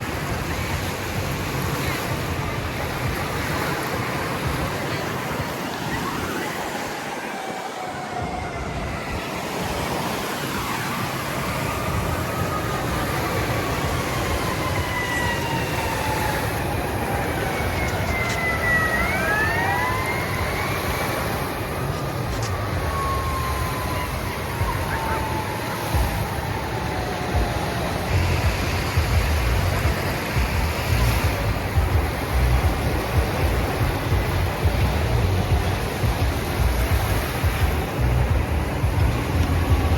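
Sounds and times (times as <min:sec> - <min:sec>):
rushing water: 0:00.0 - 0:39.9
siren wailing: 0:03.1 - 0:39.9.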